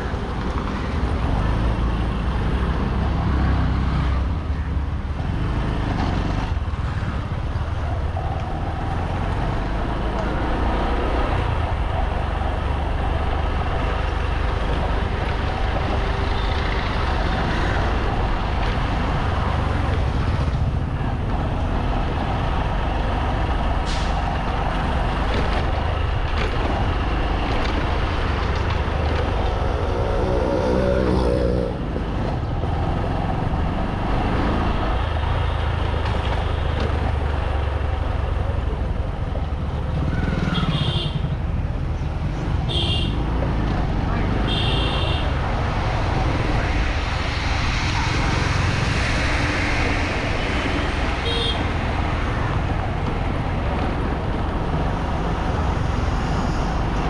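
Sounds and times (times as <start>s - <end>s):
traffic: 0.0s - 57.0s.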